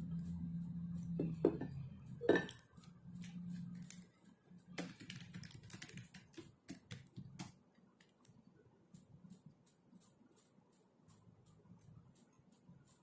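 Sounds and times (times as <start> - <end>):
typing on a computer keyboard: 2.1 - 13.0.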